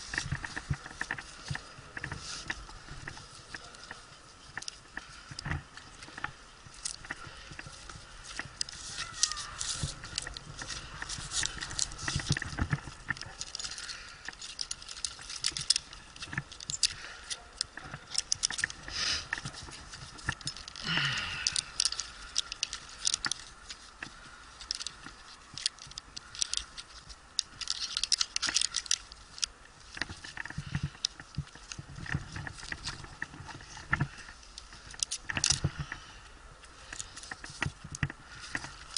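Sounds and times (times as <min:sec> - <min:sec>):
climbing hardware clicking and rattling: 0:00.0 - 0:38.9.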